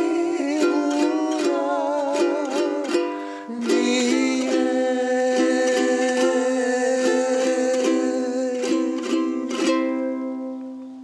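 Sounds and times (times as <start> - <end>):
man and woman singing: 0.0 - 11.0
strummed ukulele: 0.0 - 11.0.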